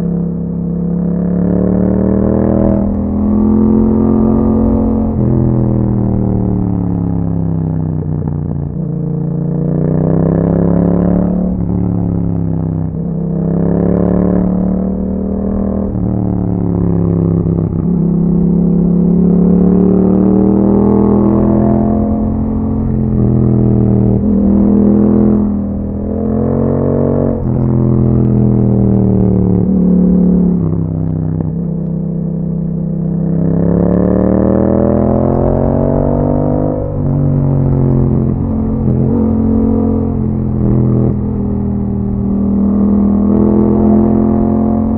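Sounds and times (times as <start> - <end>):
motorcycle exhaust revving: 0.0 - 44.9.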